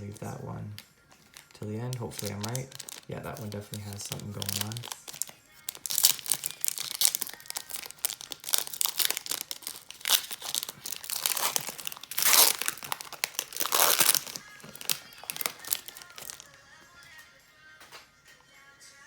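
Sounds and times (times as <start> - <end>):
foil wrapper crinkling and tearing: 0.0 - 16.6.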